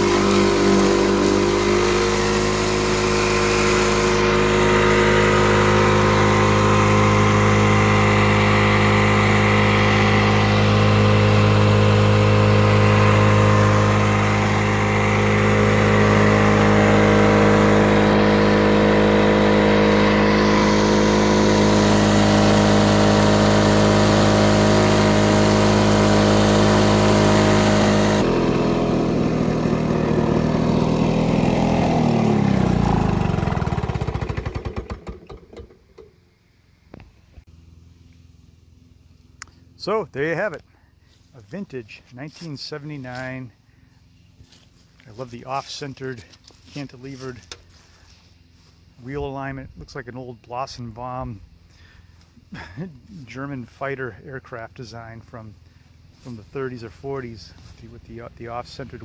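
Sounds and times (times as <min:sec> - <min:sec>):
engine slowing and dying: 0:00.0 - 0:59.0
lawn mower engine running: 0:00.0 - 0:59.0.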